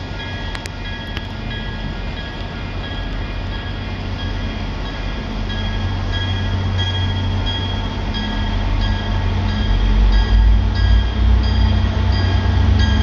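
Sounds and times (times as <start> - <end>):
diesel locomotive engine drone: 0.0 - 13.0
warning bell ringing: 0.2 - 13.0.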